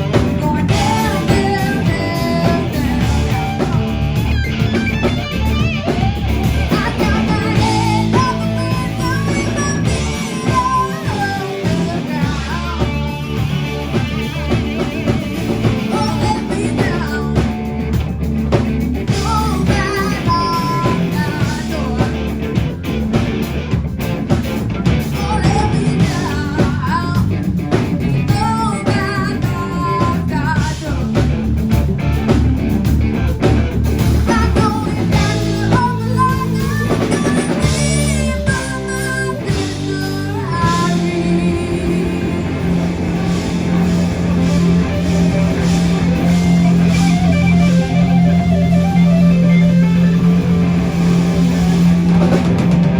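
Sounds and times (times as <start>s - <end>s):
blues-rock band playing: 0.0s - 52.9s
electric guitar lead: 0.0s - 52.9s.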